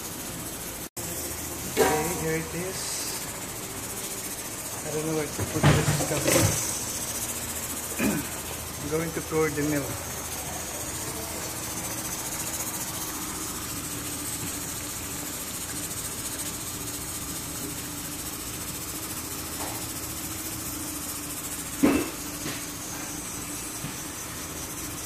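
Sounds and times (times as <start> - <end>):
pot of soup hissing on stove: 0.0 - 25.0.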